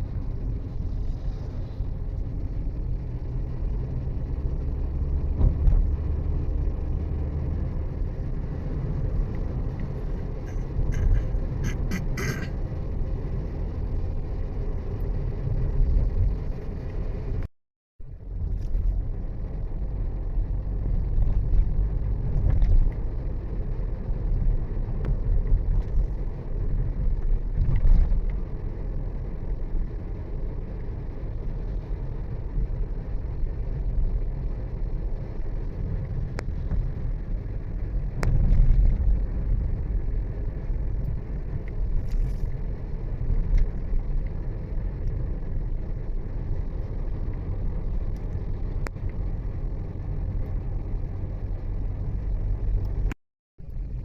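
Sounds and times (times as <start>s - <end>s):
vehicle road rumble: 0.0s - 54.0s.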